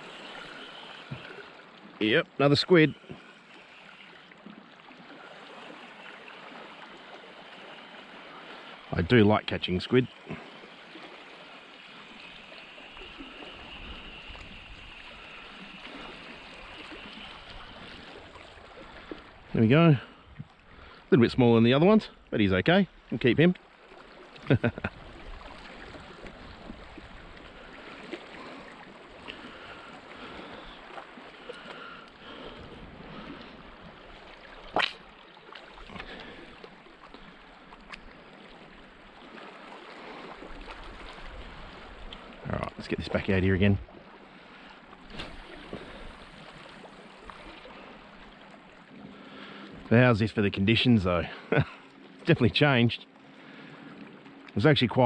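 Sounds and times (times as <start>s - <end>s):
small waves lapping on rocks: 0.0s - 55.0s.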